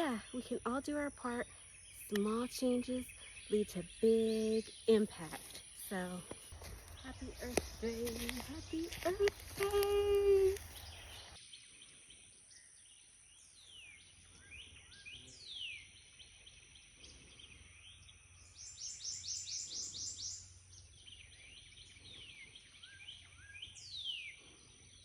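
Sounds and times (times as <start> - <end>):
birds singing: 0.0 - 25.0.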